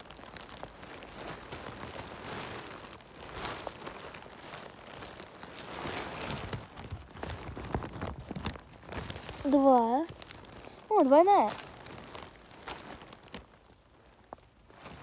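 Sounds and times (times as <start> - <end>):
rustling grass and forest litter: 0.0 - 15.0.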